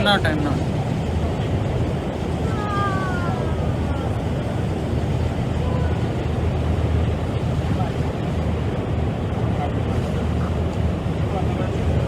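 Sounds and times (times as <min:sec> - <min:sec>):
ferry engine running: 0:00.0 - 0:12.0
rushing water: 0:00.0 - 0:12.0.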